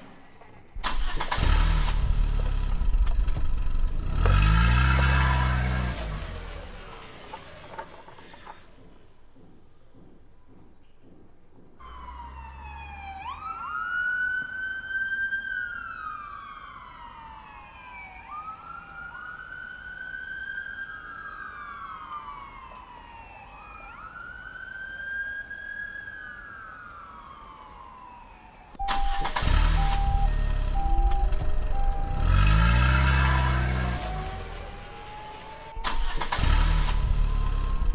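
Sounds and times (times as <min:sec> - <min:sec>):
emergency vehicle siren wailing: 0:00.8 - 0:03.1, 0:04.1 - 0:08.8, 0:11.8 - 0:37.9.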